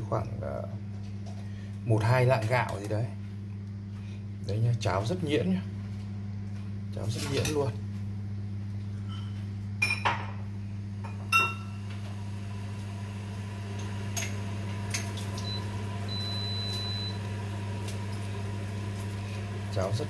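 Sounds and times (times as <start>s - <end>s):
induction cooktop humming: 0.0s - 20.0s.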